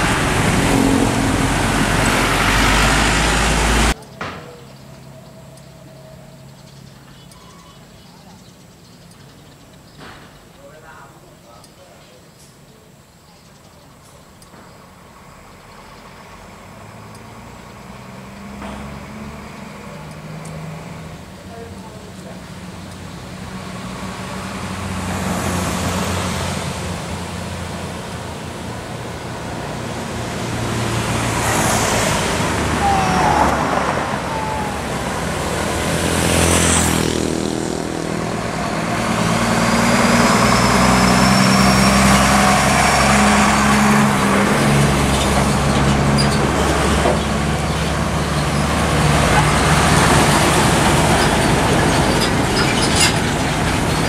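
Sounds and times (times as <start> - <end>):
diesel truck engines droning: 0.0 - 11.9, 12.6 - 54.0
tyre and road noise: 0.0 - 54.0.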